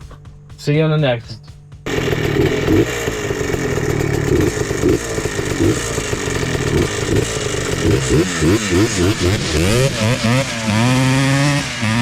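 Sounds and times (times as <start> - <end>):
two-stroke engine revving: 1.8 - 12.0.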